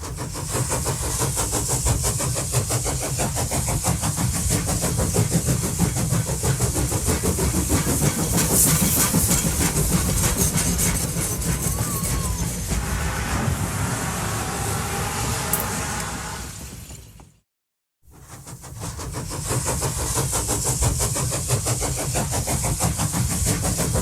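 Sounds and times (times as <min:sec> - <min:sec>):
steam hissing: 0:00.0 - 0:16.9, 0:18.1 - 0:24.0
steam locomotive exhaust beats: 0:00.0 - 0:17.4, 0:18.1 - 0:24.0.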